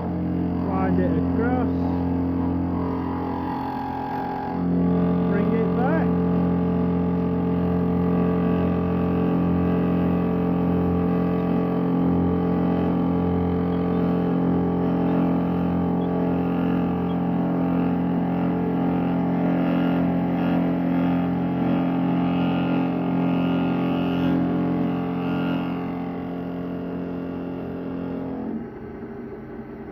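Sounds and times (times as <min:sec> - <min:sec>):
cutter routing wood: 0:00.0 - 0:29.9
drill motor humming: 0:00.0 - 0:29.9.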